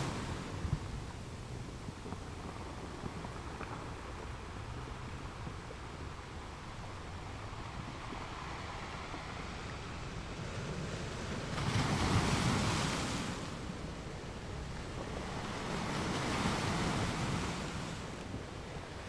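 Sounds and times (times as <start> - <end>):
ocean waves crashing on rocks: 0.0 - 5.6, 6.2 - 19.0.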